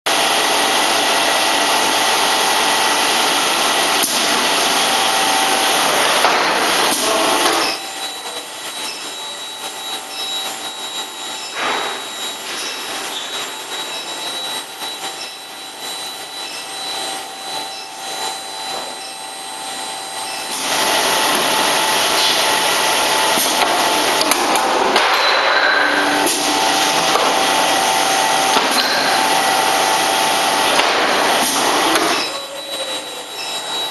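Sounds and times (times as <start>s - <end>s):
high whine: 0.4s - 33.9s.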